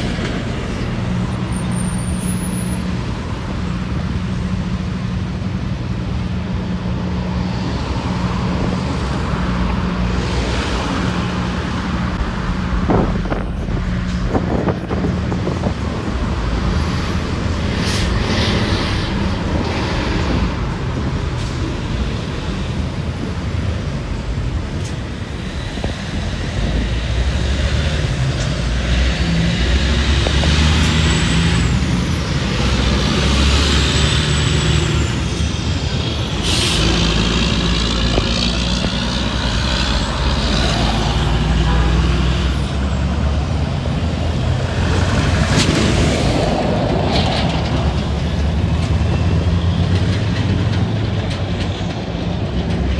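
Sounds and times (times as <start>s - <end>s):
passing vehicle whine: 0.0s - 52.9s
traffic engine and tyre rumble: 0.0s - 52.9s.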